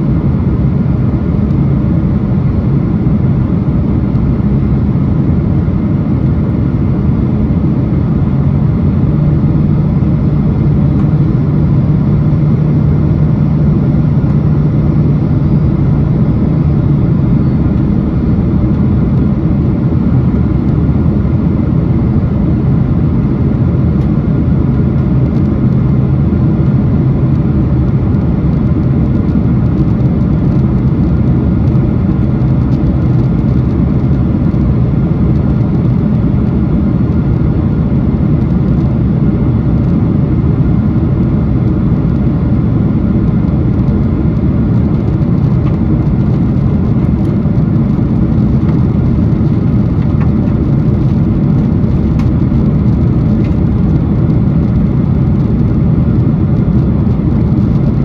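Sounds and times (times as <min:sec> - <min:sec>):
jet engines heard from cabin: 0:00.0 - 0:58.0
low hum: 0:00.0 - 0:58.0.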